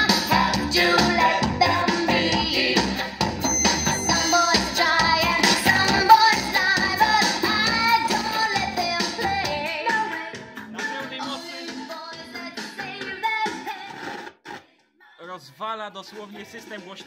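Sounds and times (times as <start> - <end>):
pop song with woman singing: 0.0 - 3.0, 4.0 - 16.9.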